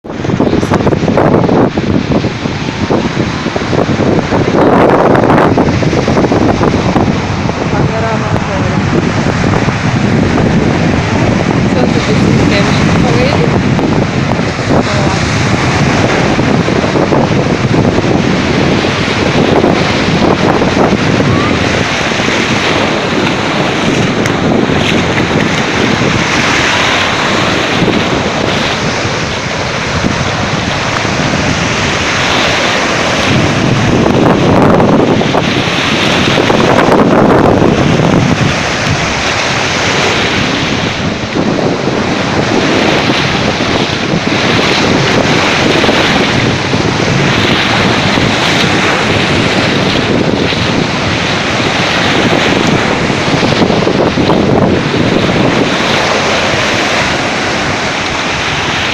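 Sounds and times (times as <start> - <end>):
sea surf washing in: 0.0 - 58.9
wind buffeting microphone: 0.0 - 58.9.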